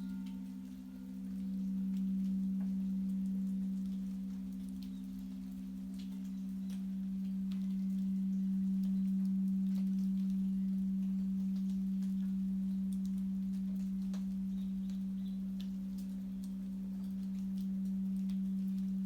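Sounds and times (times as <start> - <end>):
faint ticks: 0.0 - 19.0
singing bowl tone: 0.0 - 19.0.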